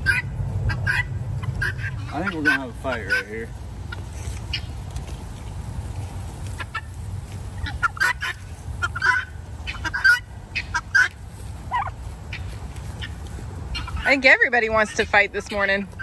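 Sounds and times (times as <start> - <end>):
fowl calling harshly: 0.0 - 4.8, 6.5 - 16.0
steady low rumble: 0.0 - 16.0.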